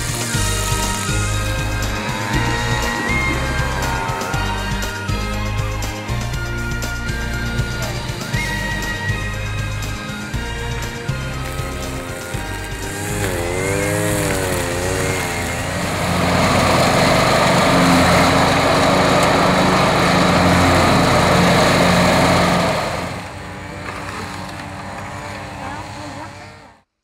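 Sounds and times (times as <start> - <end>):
background music: 0.0 - 26.5
riding lawn mower running: 0.0 - 26.9.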